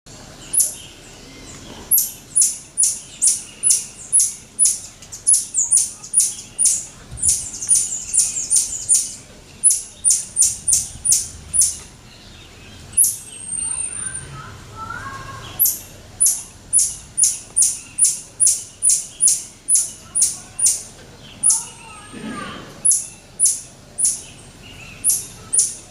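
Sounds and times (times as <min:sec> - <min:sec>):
marmosets calling: 0:00.4 - 0:25.9.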